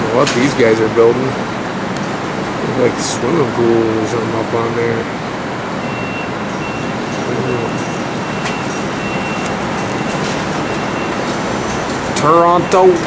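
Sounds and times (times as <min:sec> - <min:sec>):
city traffic din: 0:00.0 - 0:13.0.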